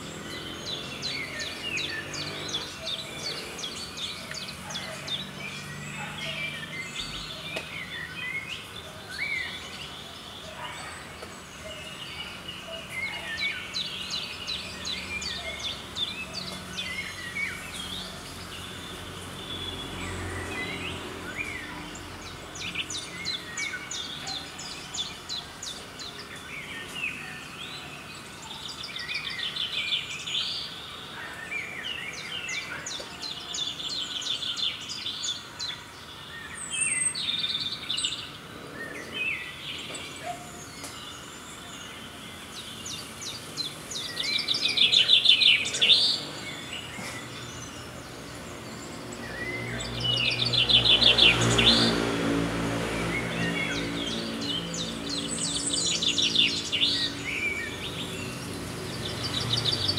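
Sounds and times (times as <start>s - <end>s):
birds chirping and trilling: 0.0s - 59.9s
steady outdoor hiss: 0.0s - 59.9s.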